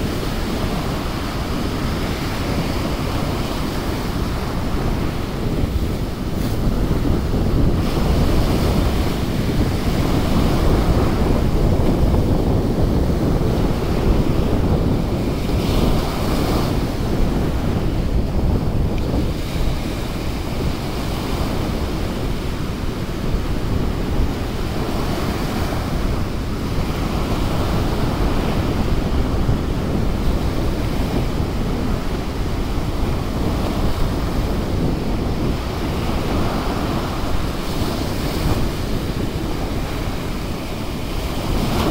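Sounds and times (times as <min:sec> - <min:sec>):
surf breaking on beach: 0:00.0 - 0:41.9
wind buffeting microphone: 0:00.0 - 0:41.9.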